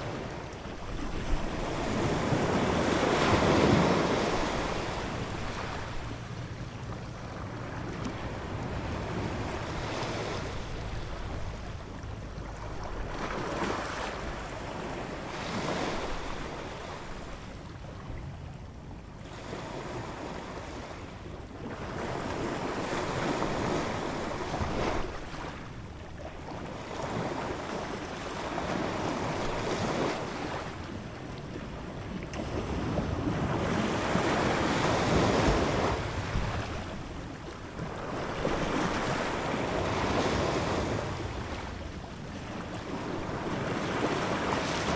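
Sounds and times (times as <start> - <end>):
ocean waves breaking: 0.0 - 18.0, 26.5 - 44.9.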